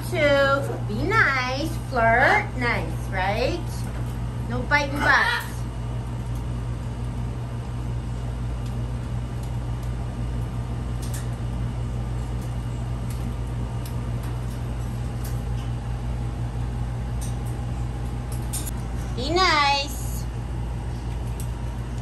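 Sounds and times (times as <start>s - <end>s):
household machine humming: 0.0s - 22.0s.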